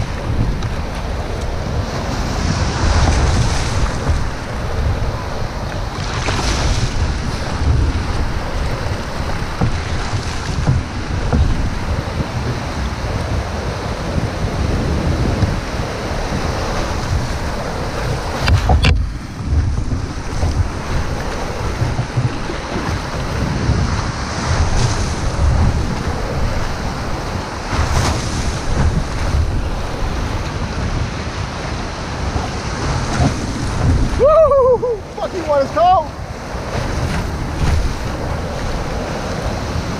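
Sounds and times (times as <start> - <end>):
surf and whitewater washing: 0.0 - 39.9
wind buffeting microphone: 0.0 - 39.9.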